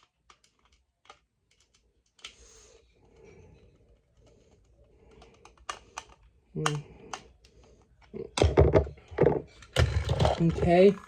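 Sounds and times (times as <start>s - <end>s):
faint steady toy motor noise: 0.0s - 11.0s.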